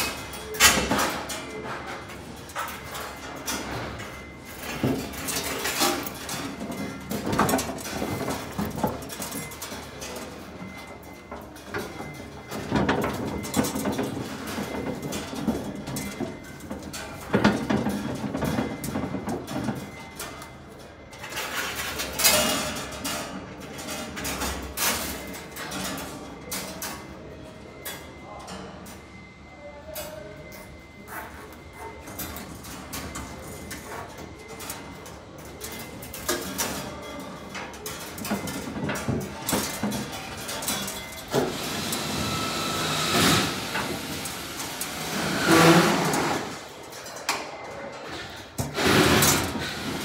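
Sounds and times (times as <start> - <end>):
wire and gear knocking and clinking: 0.0 - 27.1, 29.9 - 50.0.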